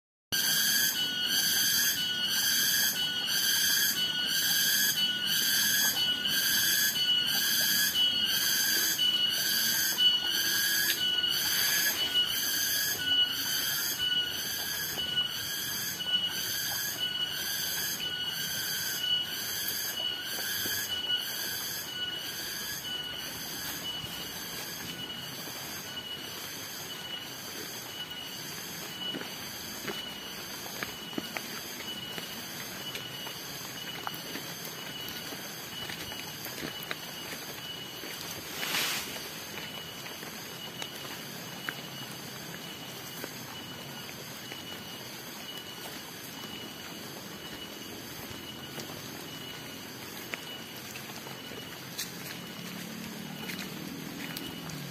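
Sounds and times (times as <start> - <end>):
insects buzzing in pulses: 0.4 - 54.9.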